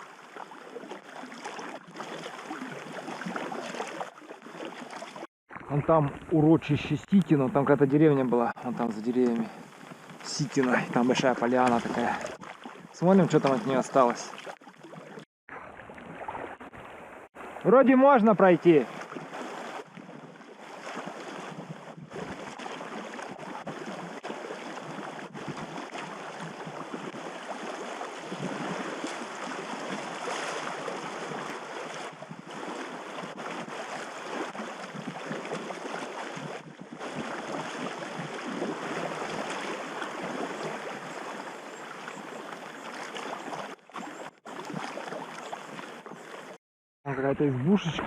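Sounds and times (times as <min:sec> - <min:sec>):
river water rushing and splashing: 0:00.0 - 0:05.3, 0:08.0 - 0:46.6.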